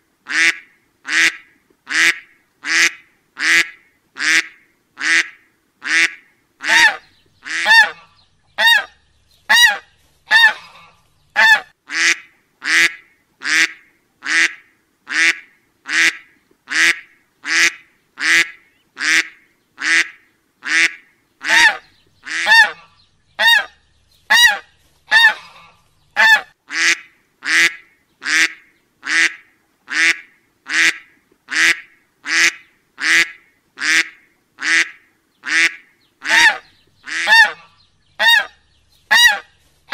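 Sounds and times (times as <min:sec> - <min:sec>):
duck quacking: 0:00.3 - 0:39.9.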